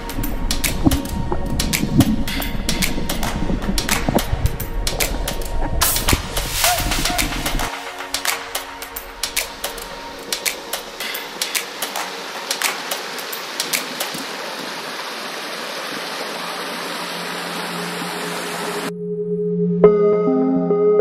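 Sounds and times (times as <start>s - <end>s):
stream rushing over stones: 0.0s - 18.9s.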